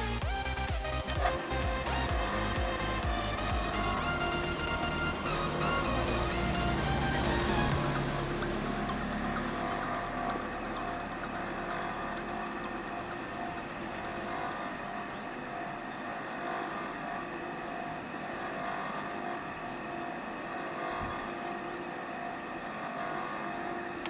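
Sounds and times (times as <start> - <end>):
electric water pump whirring: 0.0 - 24.0.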